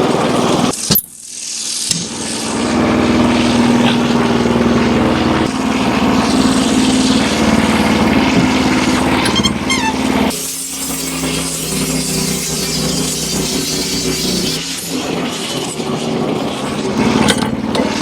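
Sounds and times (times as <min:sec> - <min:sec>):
small gasoline engine running: 0:00.0 - 0:00.8, 0:01.9 - 0:18.0.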